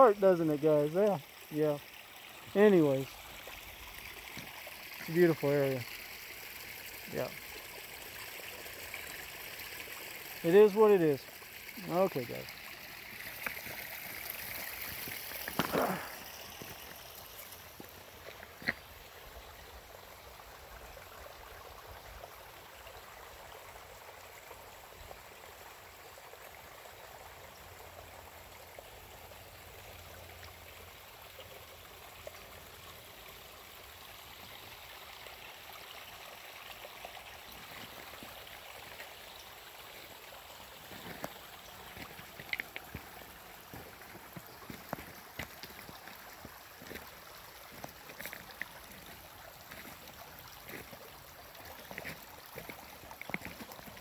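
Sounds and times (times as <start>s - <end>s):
rushing stream water: 0.0s - 54.0s.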